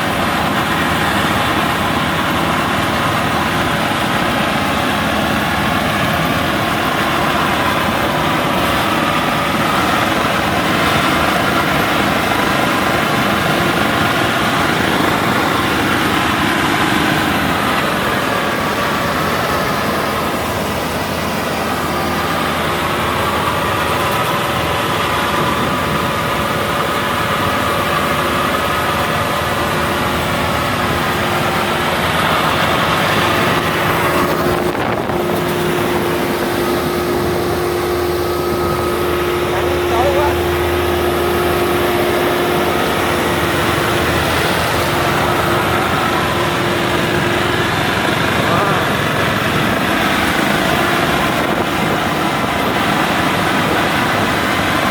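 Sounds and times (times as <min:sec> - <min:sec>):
combine harvester engine running: 0:00.0 - 0:54.9.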